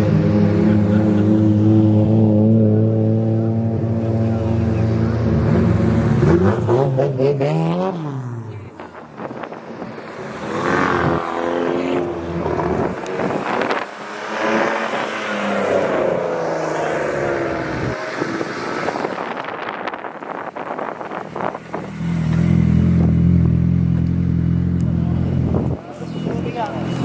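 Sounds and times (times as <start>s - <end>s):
modified car engines accelerating: 0.0s - 27.0s.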